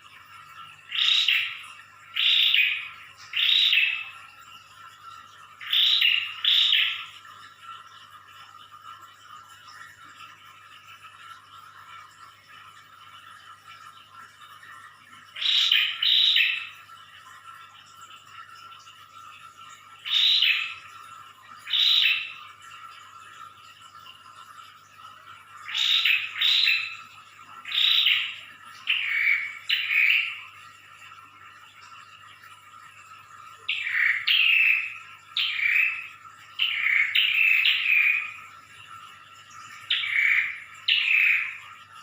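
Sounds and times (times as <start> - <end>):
faint aquarium water hum: 0.0 - 42.0.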